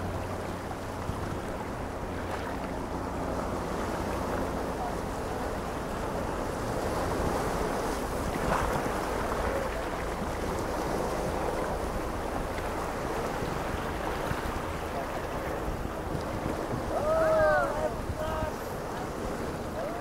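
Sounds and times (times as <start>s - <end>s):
waves washing over rocks: 0.0s - 20.0s
wind buffeting microphone: 0.0s - 20.0s.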